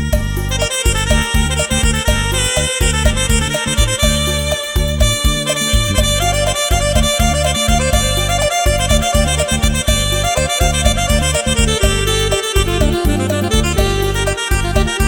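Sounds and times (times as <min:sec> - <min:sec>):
electronic keyboard music: 0:00.0 - 0:15.0.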